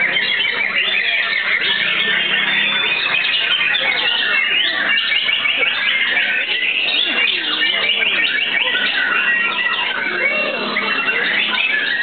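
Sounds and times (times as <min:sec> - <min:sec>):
many birds singing: 0:00.0 - 0:12.0.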